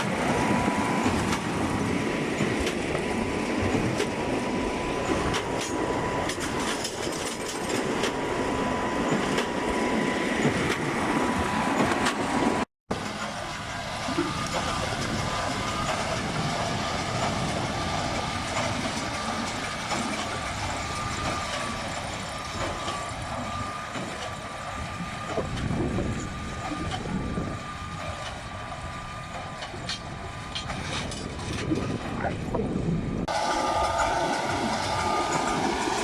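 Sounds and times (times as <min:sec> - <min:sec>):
baler machine drone with whine: 0:00.0 - 0:36.0.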